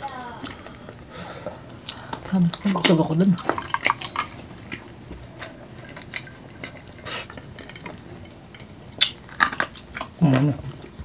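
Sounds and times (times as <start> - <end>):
wet chewing and smacking: 0.2 - 11.0.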